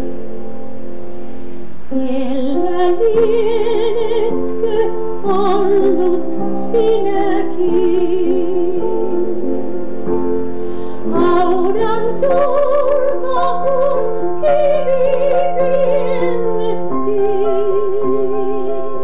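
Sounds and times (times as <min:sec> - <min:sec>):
woman singing a hymn: 0:01.8 - 0:09.6, 0:11.1 - 0:19.0.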